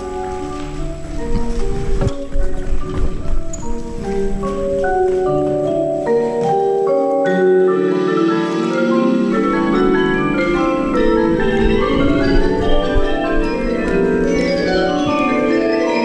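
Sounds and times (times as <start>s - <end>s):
marimba and vibraphone chords: 0.0s - 16.0s.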